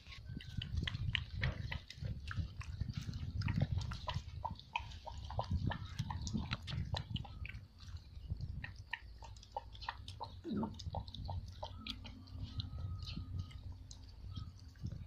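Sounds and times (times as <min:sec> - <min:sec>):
puppy lapping from plastic bowl: 0:00.0 - 0:15.0.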